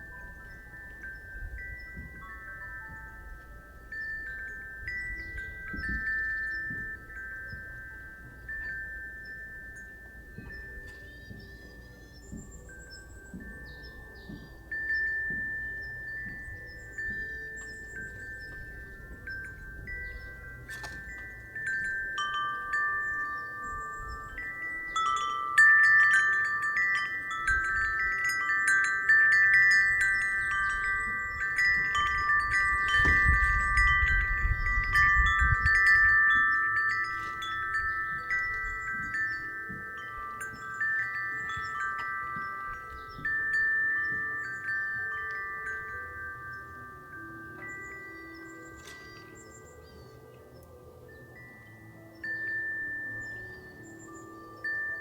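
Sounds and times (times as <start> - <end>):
low rumble of wind: 0.0 - 55.0
wind chime ringing: 0.0 - 55.0.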